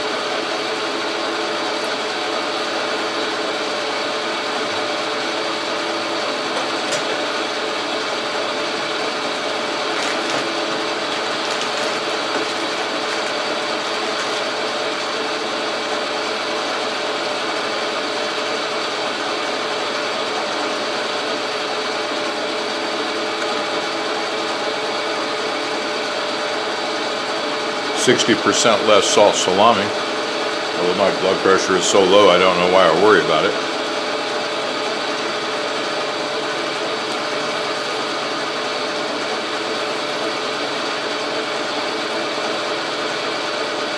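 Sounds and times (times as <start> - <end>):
metal lathe running: 0.0 - 43.9.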